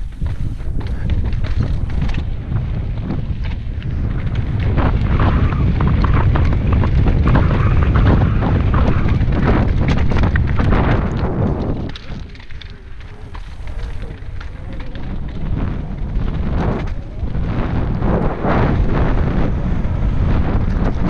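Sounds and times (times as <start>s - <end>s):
tyres crunching over stone: 0.0s - 18.8s
bike clicking and rattling: 0.0s - 21.0s
wind buffeting microphone: 0.0s - 21.0s.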